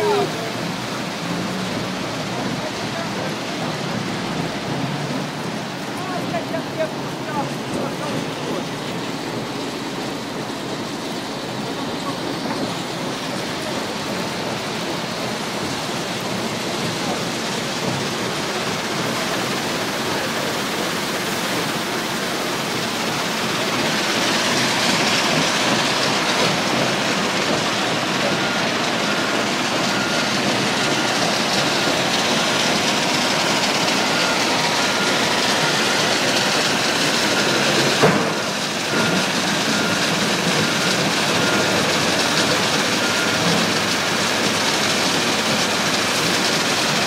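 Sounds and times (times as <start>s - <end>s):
heavy machinery running: 0.0s - 47.0s.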